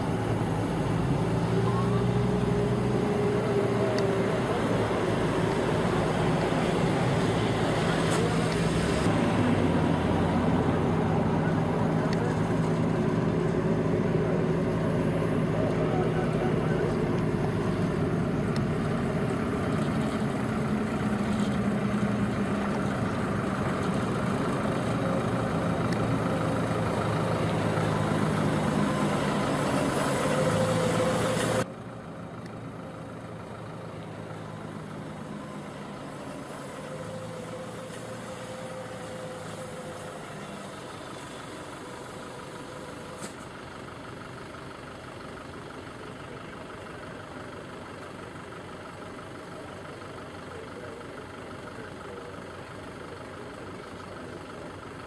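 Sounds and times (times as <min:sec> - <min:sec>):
trailer rolling: 0:00.0 - 0:50.4
heavy diesel truck engine: 0:00.0 - 0:55.0
quiet steady engine hum: 0:00.0 - 0:55.0.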